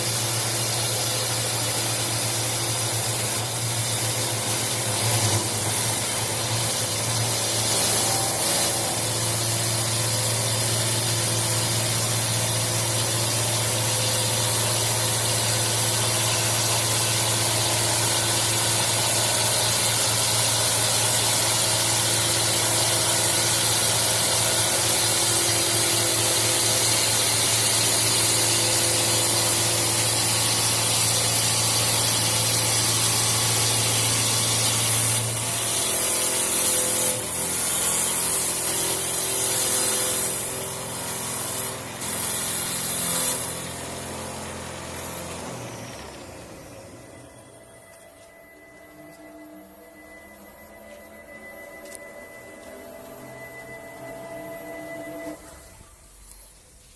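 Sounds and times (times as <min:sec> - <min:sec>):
hiss of wood cutting: 0:00.0 - 0:45.9
lathe motor hum: 0:00.0 - 0:56.4.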